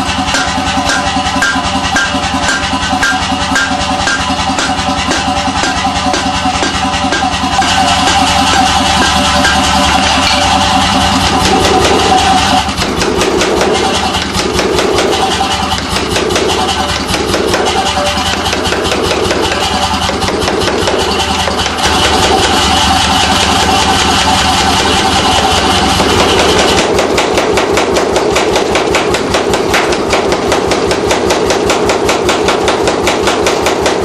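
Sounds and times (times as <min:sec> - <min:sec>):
forging hammer striking steel: 0:00.0 - 0:34.0
machine hum: 0:00.0 - 0:34.0.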